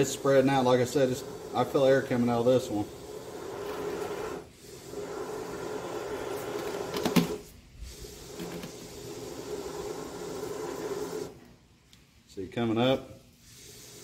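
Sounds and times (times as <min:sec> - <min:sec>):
spray foam hissing: 0:00.0 - 0:11.5, 0:13.2 - 0:14.0.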